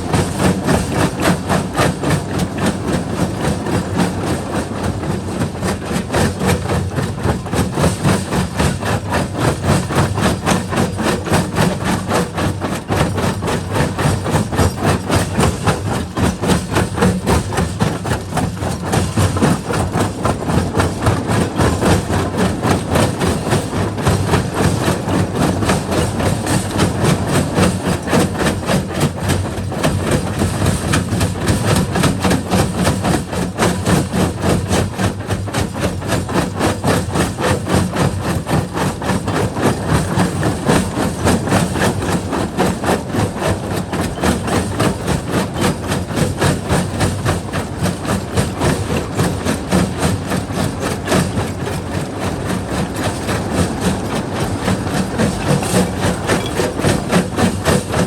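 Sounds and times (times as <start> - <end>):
rocks clattering in crusher: 6.4 - 58.0.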